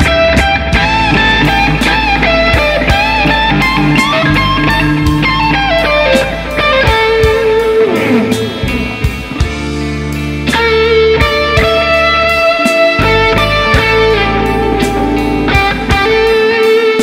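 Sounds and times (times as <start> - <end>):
electric guitar blues lead: 0.0 - 17.0.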